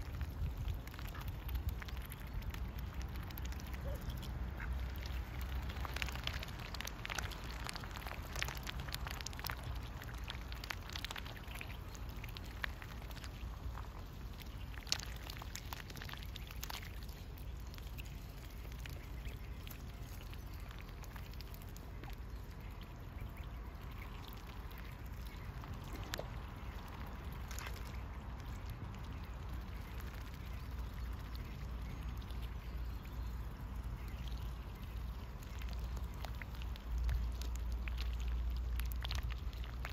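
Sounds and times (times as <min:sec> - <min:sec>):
ducks dabbling in mud: 0:00.0 - 0:39.9.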